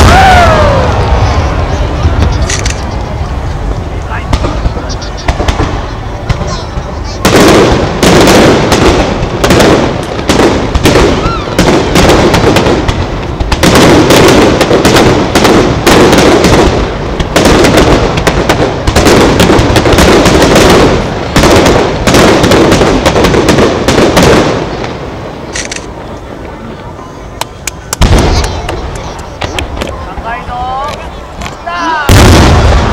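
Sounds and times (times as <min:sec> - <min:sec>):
fireworks bursting and crackling: 0:00.0 - 0:32.9.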